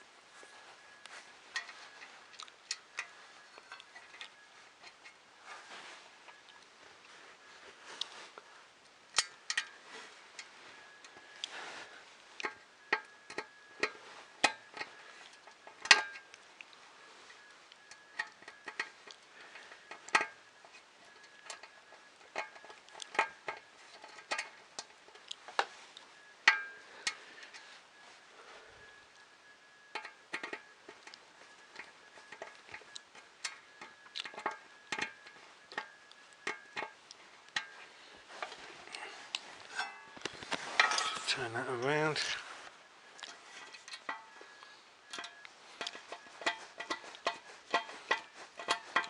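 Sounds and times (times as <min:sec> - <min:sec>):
small parts clicking and tapping: 0:01.0 - 0:05.2, 0:07.9 - 0:11.8, 0:12.4 - 0:27.7, 0:29.0 - 0:41.4, 0:43.1 - 0:49.0.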